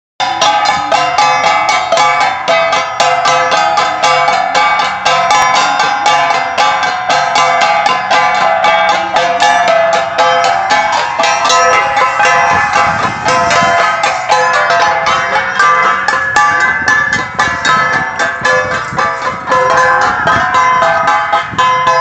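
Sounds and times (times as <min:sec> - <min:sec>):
bronze gongs beaten rhythmically: 0:00.2 - 0:22.0.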